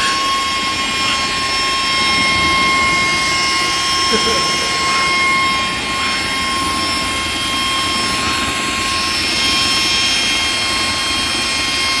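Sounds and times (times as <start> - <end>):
high-pitched whines: 0.0 - 12.0.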